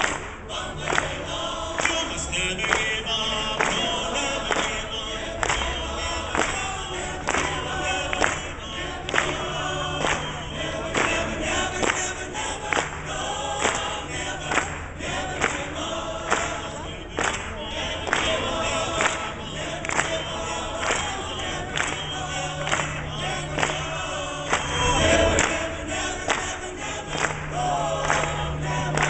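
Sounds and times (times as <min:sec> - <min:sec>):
crowd clapping along: 0:00.0 - 0:29.0
men's chorus singing: 0:00.0 - 0:29.0.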